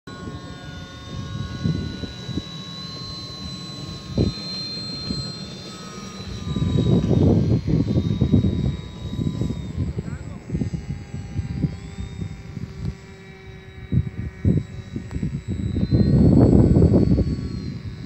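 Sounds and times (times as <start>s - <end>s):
low rumbling: 0.1s - 18.0s
model plane motor whining: 0.1s - 18.0s.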